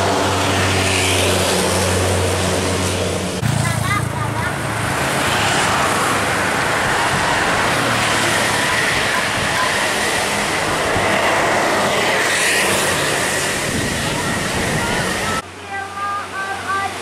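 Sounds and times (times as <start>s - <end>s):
bus driving past: 0.0s - 17.0s.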